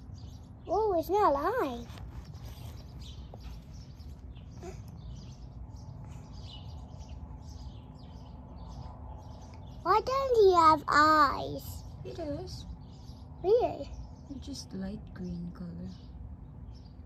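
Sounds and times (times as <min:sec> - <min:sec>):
faint bird chirps: 0:00.0 - 0:17.0
low outdoor rumble: 0:00.0 - 0:17.0.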